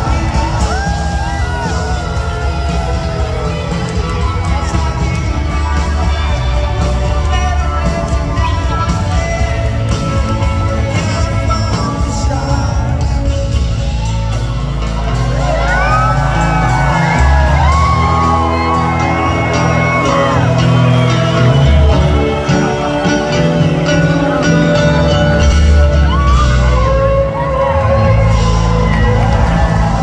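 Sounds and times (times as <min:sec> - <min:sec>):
live country-rock band: 0:00.0 - 0:30.0.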